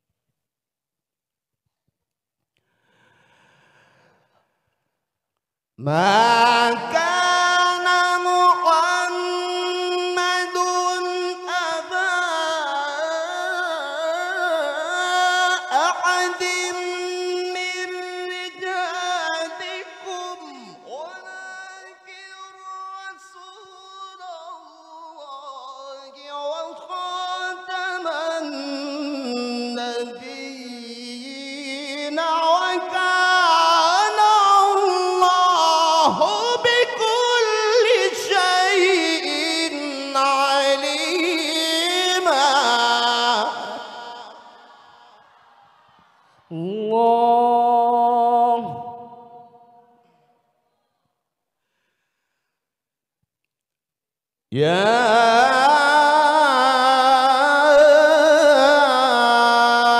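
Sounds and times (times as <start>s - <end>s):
man reciting in chant: 5.8s - 45.2s, 46.5s - 50.2s, 54.5s - 59.9s.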